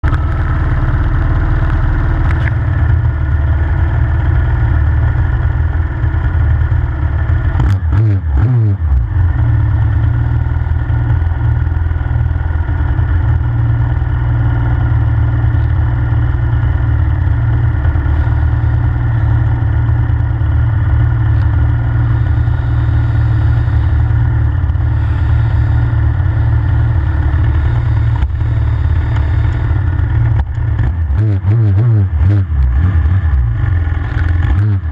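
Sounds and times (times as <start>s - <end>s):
motorbike engine idling: 0.0s - 7.9s, 8.8s - 34.9s.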